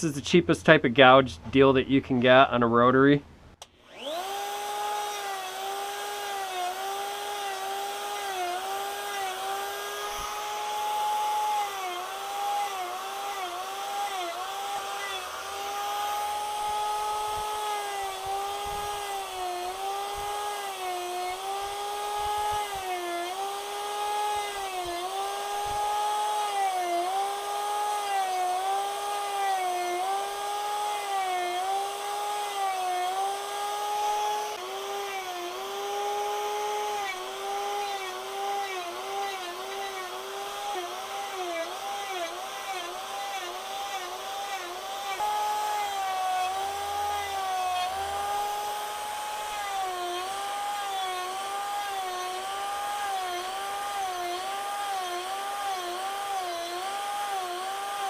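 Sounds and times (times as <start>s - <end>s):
rotary tool cutting wood: 3.6s - 58.0s.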